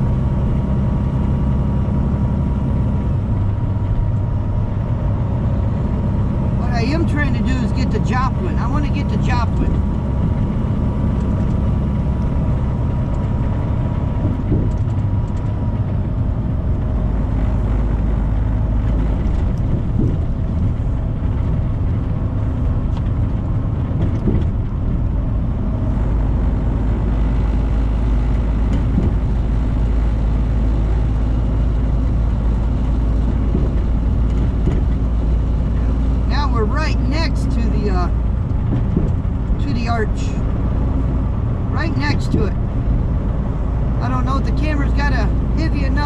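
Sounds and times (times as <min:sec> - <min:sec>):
road noise: 0:00.0 - 0:46.0
truck engine drone: 0:00.0 - 0:46.0.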